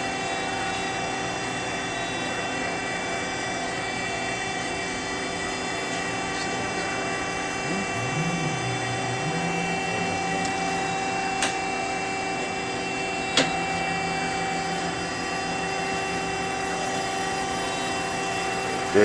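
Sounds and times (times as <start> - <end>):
machining center whining: 0.0 - 19.0.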